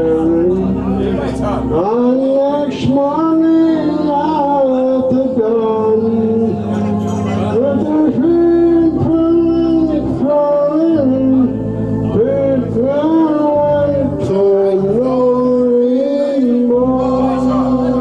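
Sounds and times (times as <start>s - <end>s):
electronic organ chords: 0.0s - 18.0s
man singing into microphone: 0.0s - 18.0s.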